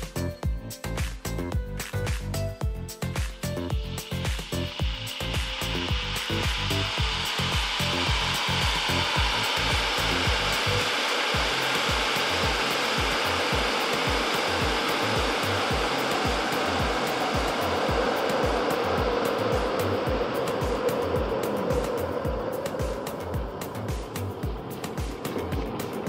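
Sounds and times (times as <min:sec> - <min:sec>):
background music with low beat: 0:00.0 - 0:26.0
electric kettle heating water: 0:03.6 - 0:26.0.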